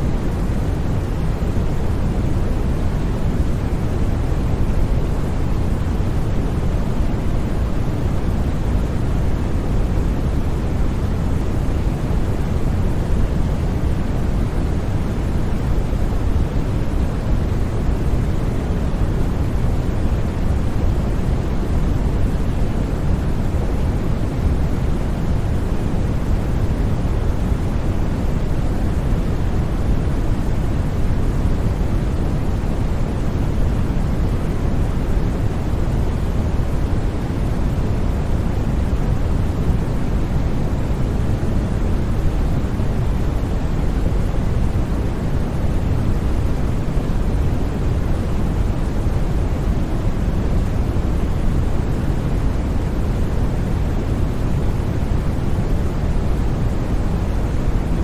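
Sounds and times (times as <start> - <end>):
deep white noise hiss: 0.0 - 58.0.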